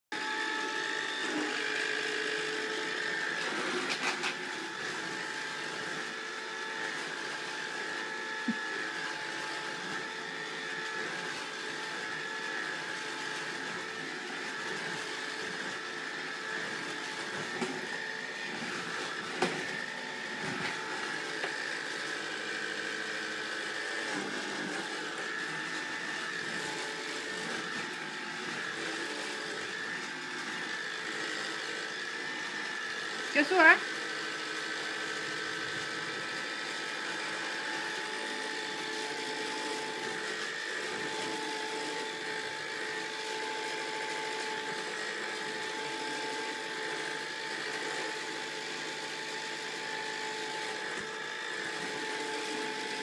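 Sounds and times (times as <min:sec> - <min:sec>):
vacuum cleaner motor whining: 0:00.1 - 0:53.0.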